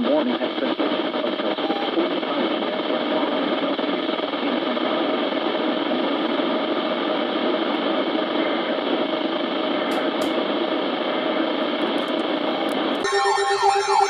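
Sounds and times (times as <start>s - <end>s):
radio static hiss: 0.0s - 13.1s.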